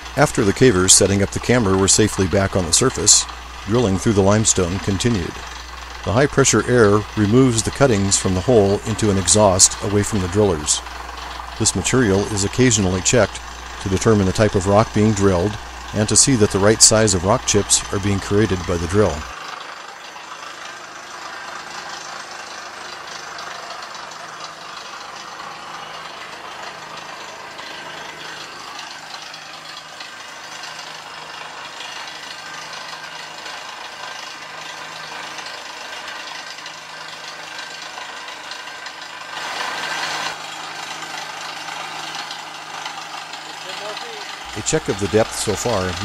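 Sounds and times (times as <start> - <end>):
air hammer rattling: 0.0 - 46.0
drill rig engine drone: 0.0 - 46.0.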